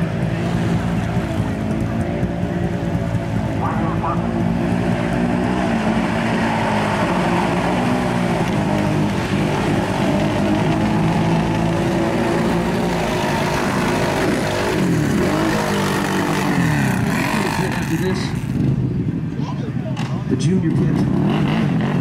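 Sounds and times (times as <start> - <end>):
quad engine revving hard: 0.0 - 18.6, 20.8 - 22.0.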